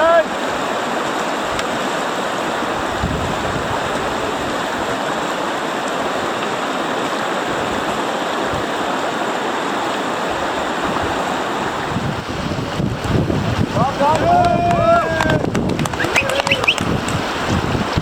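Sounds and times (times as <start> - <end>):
river water rushing through rapids: 0.0 - 18.0.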